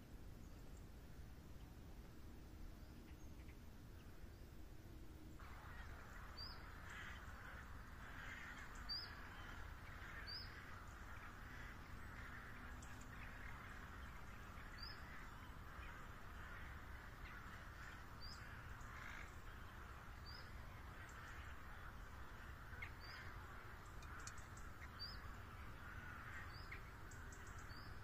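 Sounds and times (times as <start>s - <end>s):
soft steady hiss: 0.0s - 28.0s
bird chirping: 5.3s - 28.0s.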